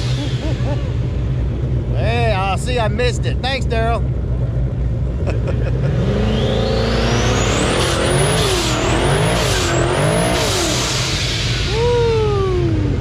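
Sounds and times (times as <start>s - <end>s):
car engine revving: 0.0s - 13.0s
high whine: 0.0s - 13.0s.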